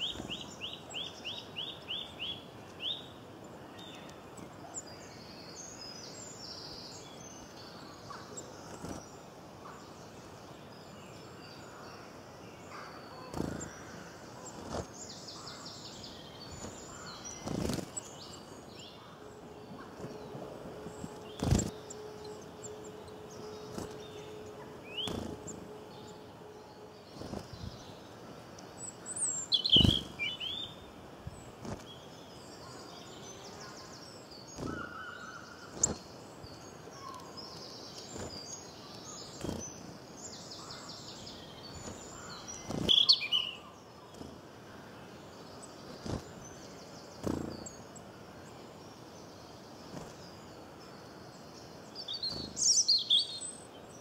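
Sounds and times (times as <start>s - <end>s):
bird chirps and calls: 0.0s - 10.4s, 12.6s - 54.0s
faint steady hum: 0.0s - 54.0s
steady background hiss: 0.0s - 54.0s.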